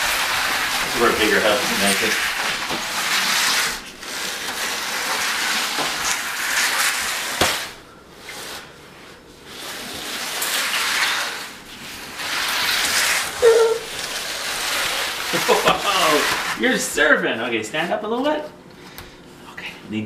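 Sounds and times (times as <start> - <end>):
cardboard scraping on tile: 0.0 - 17.2.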